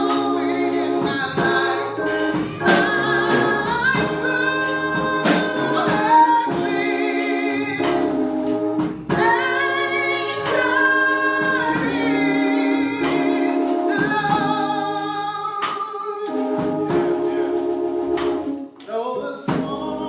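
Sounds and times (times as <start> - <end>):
gospel singing: 0.0 - 20.0
instrumental accompaniment: 0.0 - 20.0.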